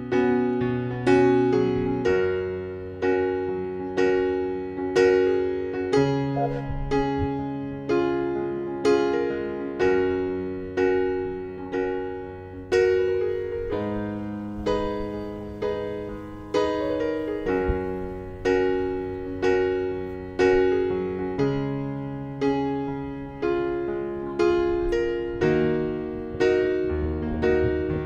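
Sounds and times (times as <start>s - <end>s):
gentle piano chords: 0.0s - 28.0s.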